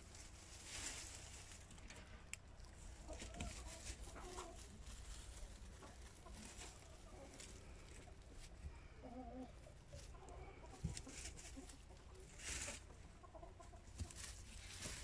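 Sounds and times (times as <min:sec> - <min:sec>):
straw bedding rustling: 0:00.0 - 0:08.6, 0:09.8 - 0:13.1, 0:13.8 - 0:15.0
rabbit chewing: 0:00.0 - 0:15.0.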